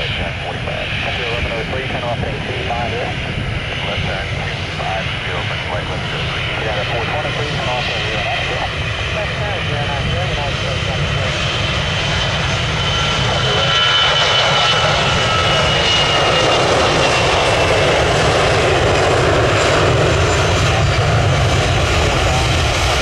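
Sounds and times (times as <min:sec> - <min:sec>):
high engine whine: 0:00.0 - 0:23.0
jet airliner engines roaring: 0:00.0 - 0:23.0.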